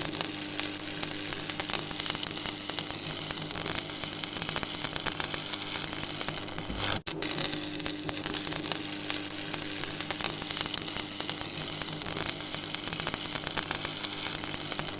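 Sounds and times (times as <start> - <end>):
electricity arcing crackle: 0.2 - 14.9.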